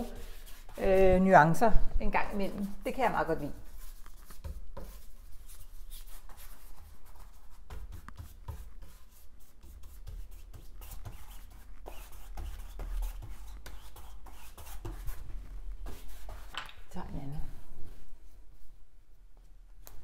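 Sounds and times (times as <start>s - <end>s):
paintbrush scrubbing on canvas: 0.0s - 16.5s.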